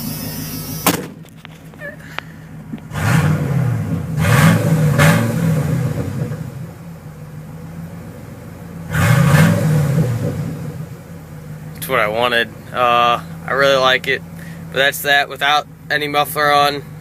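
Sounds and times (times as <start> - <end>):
vee eight engine revving and idling: 0.0 - 17.0.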